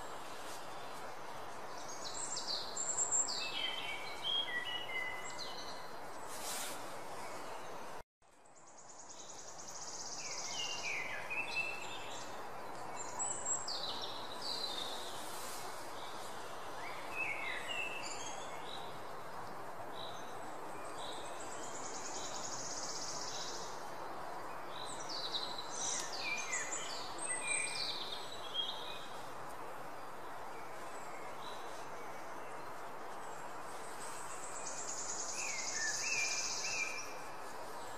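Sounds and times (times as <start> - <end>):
background hiss: 0.0 - 37.9
small birds chirping: 0.0 - 37.9.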